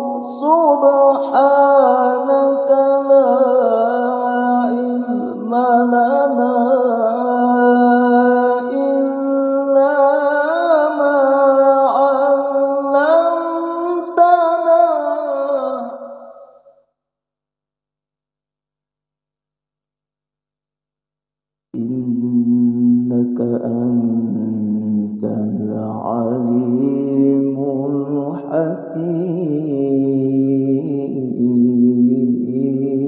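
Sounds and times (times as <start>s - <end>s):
man reciting melodically: 0.0s - 16.2s, 21.8s - 33.0s.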